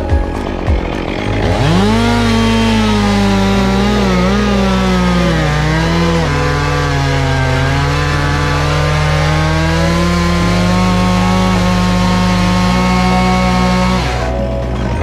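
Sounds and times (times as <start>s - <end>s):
chainsaw engine revving: 0.0s - 15.0s
low hum: 0.0s - 15.0s.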